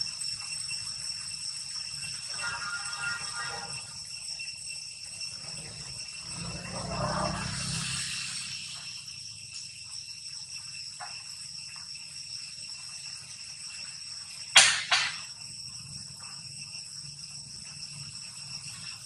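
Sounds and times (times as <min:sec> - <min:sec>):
insect chorus drone: 0:00.0 - 0:19.0.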